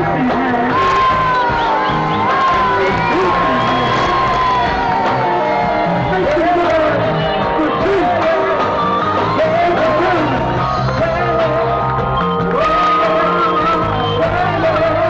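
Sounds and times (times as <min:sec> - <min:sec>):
live band music: 0:00.0 - 0:15.0
person singing: 0:00.0 - 0:15.0
steady bass line: 0:00.0 - 0:15.0.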